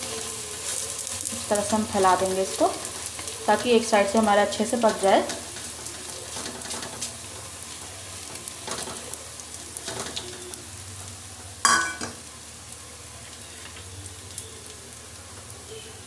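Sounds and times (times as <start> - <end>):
paste sizzling in hot oil: 0.0 - 16.0.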